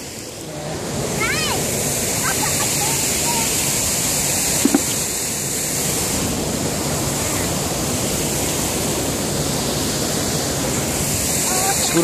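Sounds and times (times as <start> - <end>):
turbulent water rushing: 0.0 - 12.0.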